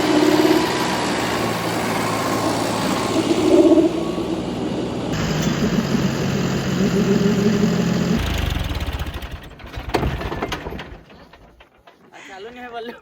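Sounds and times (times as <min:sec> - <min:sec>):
tractor diesel engine running: 0:00.0 - 0:12.1.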